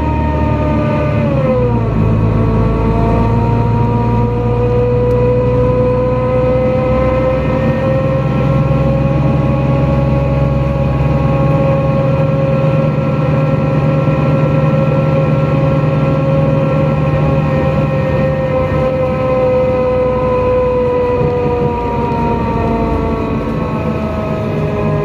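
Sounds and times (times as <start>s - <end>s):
bus engine running: 0.0s - 25.0s
drivetrain whine: 0.0s - 25.0s.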